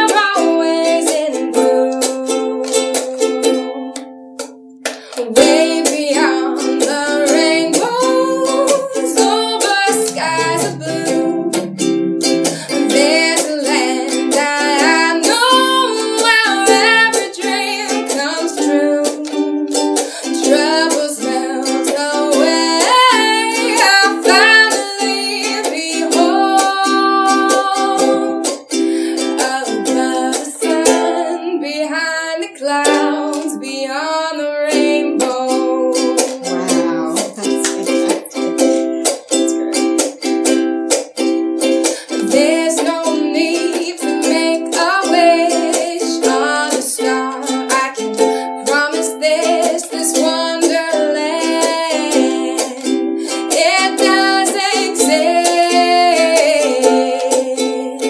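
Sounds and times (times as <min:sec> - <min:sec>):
woman singing: 0:00.0 - 0:04.2, 0:05.1 - 0:39.8, 0:41.8 - 0:58.0
ukulele strumming: 0:00.0 - 0:58.0.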